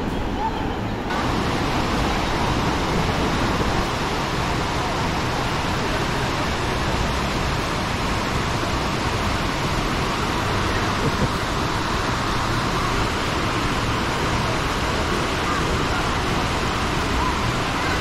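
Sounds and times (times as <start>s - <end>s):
river rapids rushing: 1.1s - 18.0s.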